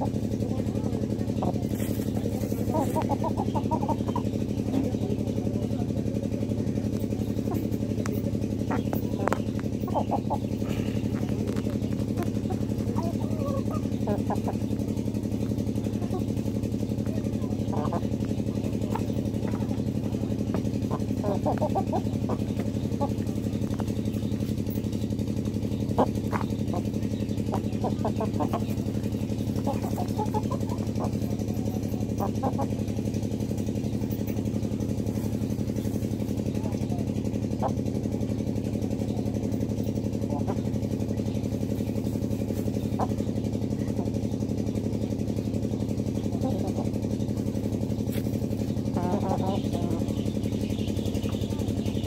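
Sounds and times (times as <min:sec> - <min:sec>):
chickens clucking: 0:00.0 - 0:52.0
small engine running: 0:00.0 - 0:52.0.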